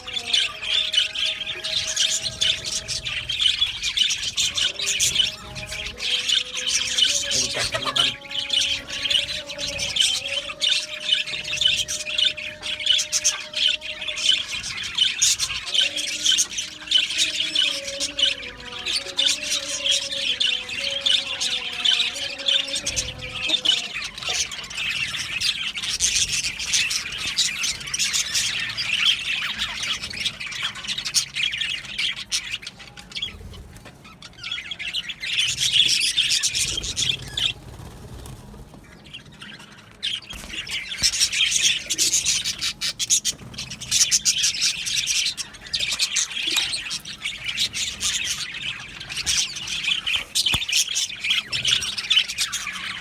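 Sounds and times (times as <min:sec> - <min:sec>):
budgerigars chattering and squawking: 0:00.0 - 0:53.0.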